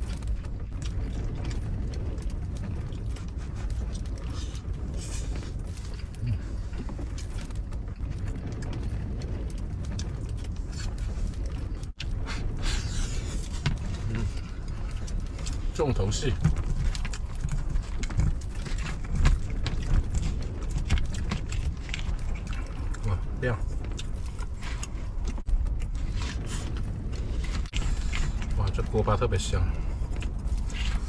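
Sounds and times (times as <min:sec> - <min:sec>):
strong wind rumbling: 0:00.0 - 0:31.0.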